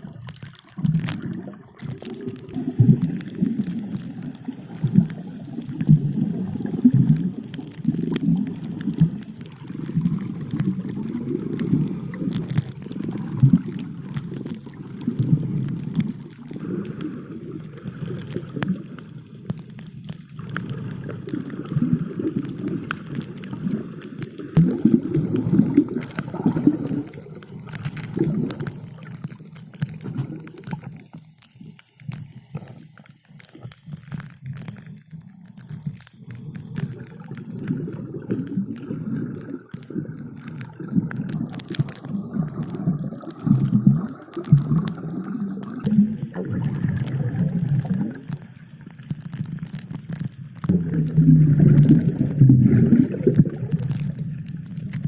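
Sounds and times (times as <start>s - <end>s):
underwater air bubbles gurgling: 0.0s - 55.0s.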